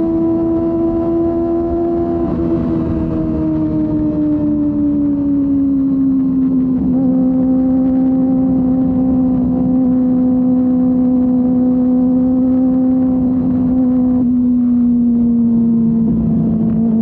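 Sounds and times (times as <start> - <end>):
motorcycle engine at high rpm: 0.0 - 17.0.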